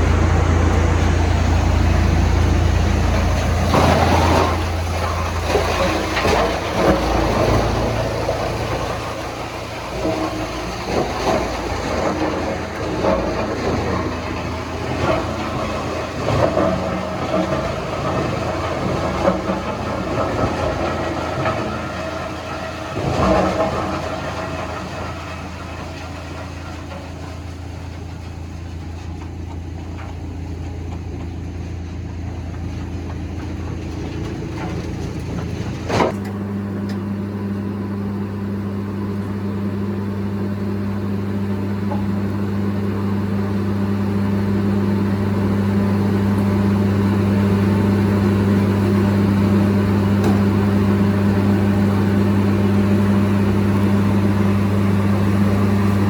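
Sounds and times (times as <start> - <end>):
machine engine humming: 0.0 - 56.0.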